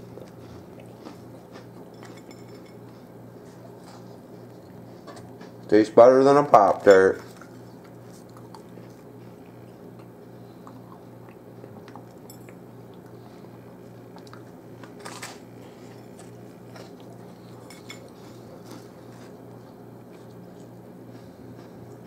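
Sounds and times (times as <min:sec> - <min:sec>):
chewing and crunching: 0:00.0 - 0:05.8, 0:06.6 - 0:22.0
steady low hum: 0:00.0 - 0:22.0.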